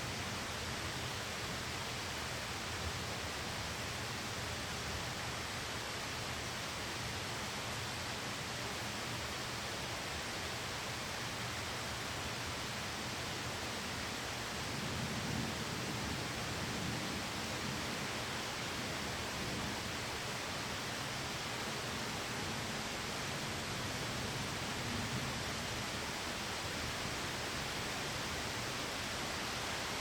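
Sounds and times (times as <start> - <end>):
rain on a window: 0.0 - 30.0.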